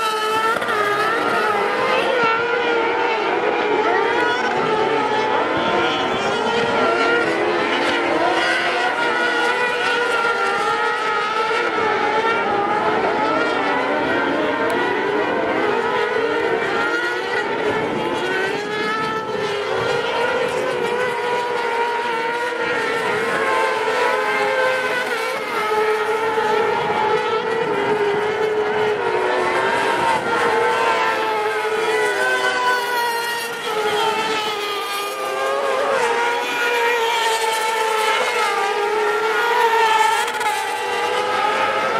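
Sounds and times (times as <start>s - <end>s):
racing buggy engines revving: 0.0s - 41.9s.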